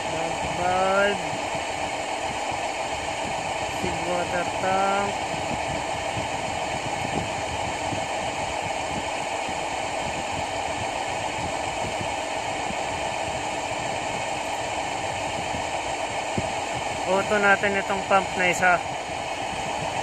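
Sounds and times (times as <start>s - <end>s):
mechanical drone with hiss: 0.0s - 20.0s.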